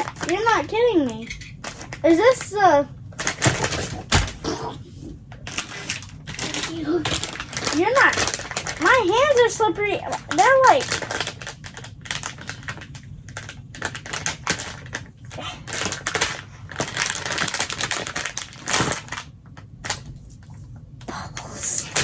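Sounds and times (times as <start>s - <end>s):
plastic packaging crinkling: 0.0s - 2.5s, 3.2s - 4.6s, 5.3s - 20.5s.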